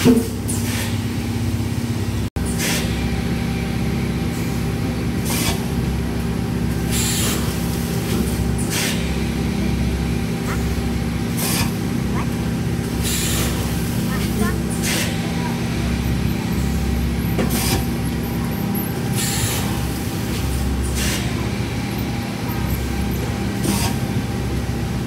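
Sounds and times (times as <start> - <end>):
machine droning: 0.0 - 25.0.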